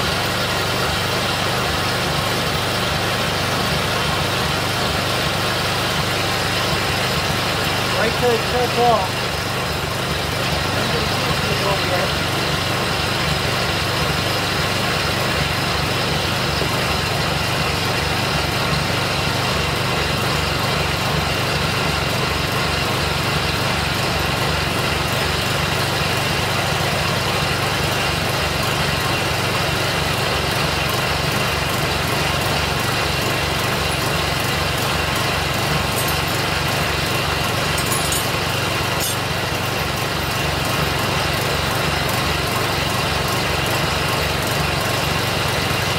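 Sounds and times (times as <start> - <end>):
lawn mower engine running steadily: 0.0 - 45.9.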